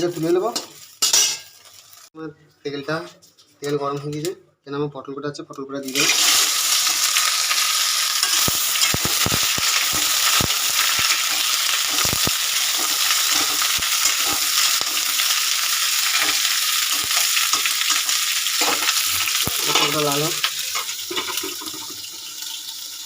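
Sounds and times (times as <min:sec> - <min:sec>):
vegetables sizzling in hot oil: 0:00.0 - 0:02.1, 0:05.9 - 0:23.0.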